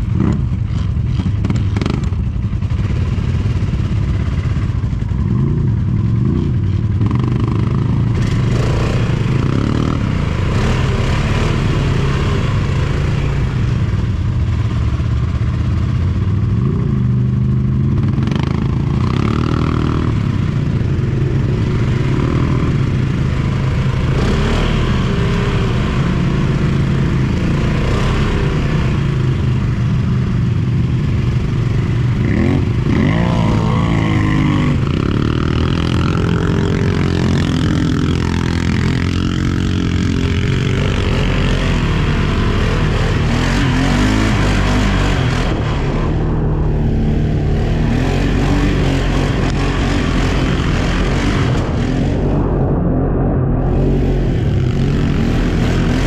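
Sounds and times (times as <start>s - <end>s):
quad bike engine revving: 0.0s - 52.6s, 53.7s - 56.0s.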